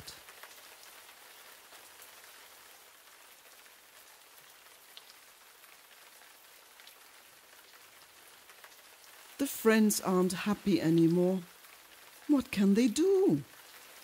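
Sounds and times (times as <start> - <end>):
faint steady rain: 0.0 - 14.0.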